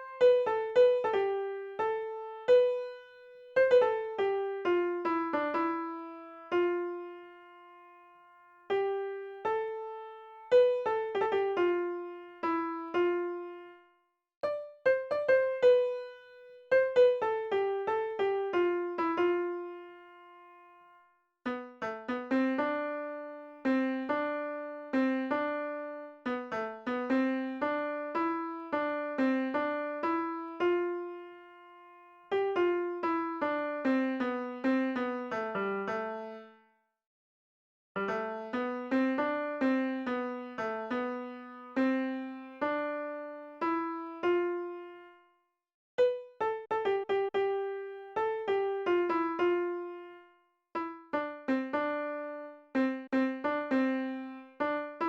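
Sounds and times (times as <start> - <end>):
simple piano melody: 0.0 - 36.7, 38.0 - 45.4, 46.0 - 55.0.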